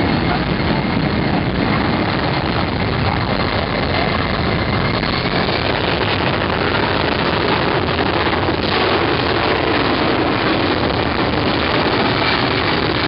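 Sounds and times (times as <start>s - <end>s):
faint high whine: 0.0s - 13.0s
loud steady jet engine noise: 0.0s - 13.0s.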